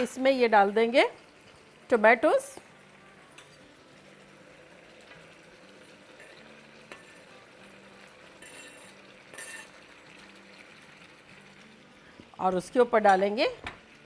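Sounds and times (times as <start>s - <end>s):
chicken sizzling in wok: 0.0s - 14.0s.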